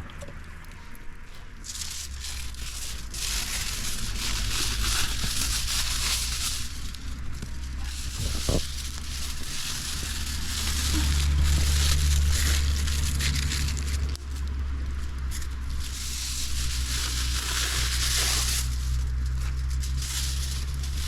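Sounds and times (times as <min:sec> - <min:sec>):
low rumble: 0:00.0 - 0:21.0
campfire crackling: 0:00.4 - 0:21.0.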